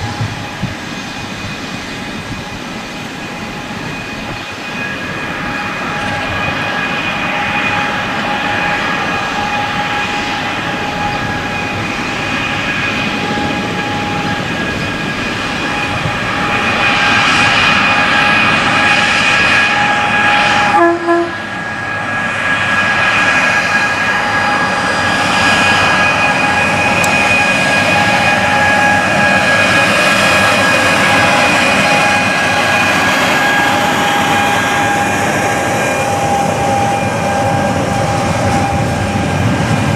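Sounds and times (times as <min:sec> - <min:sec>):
freight train rolling past: 0:00.0 - 0:22.1, 0:22.9 - 0:39.9
constant high whine: 0:00.0 - 0:39.9.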